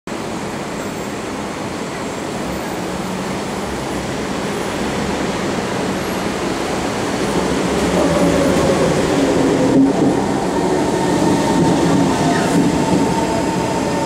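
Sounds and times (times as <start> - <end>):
metro train wheels rumbling: 0.1 - 14.0.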